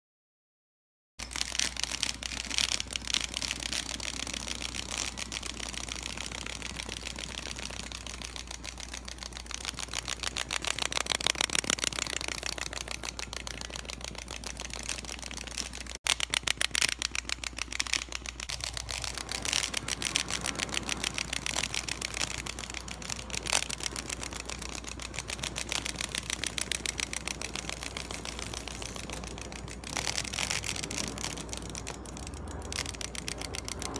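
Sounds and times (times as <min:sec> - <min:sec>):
clockwork toys clicking: 0:01.2 - 0:33.9.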